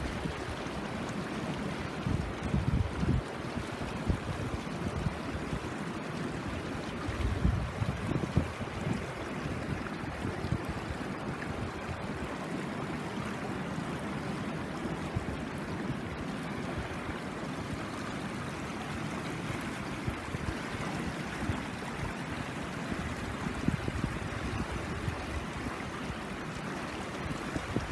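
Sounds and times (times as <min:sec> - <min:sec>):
stream flowing water: 0:00.0 - 0:27.9.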